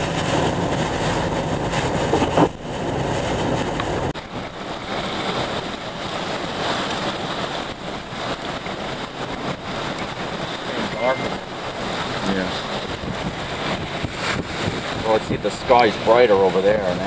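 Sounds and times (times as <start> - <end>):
vehicle road rumble: 0.0 - 17.0
wind-driven rain hissing: 0.0 - 17.0.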